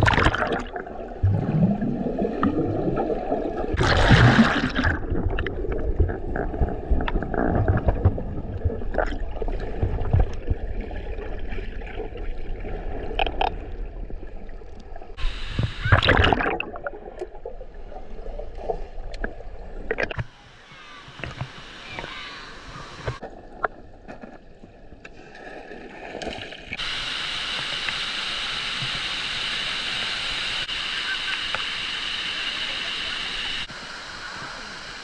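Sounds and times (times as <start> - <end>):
water splashing and gurgling: 0.0 - 20.4, 21.1 - 33.7.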